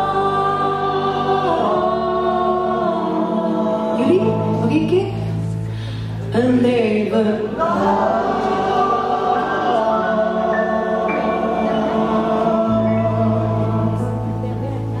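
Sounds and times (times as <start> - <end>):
other voices singing: 0.0 - 4.6, 7.1 - 15.0
double bass: 0.0 - 15.0
keyboard: 0.0 - 15.0.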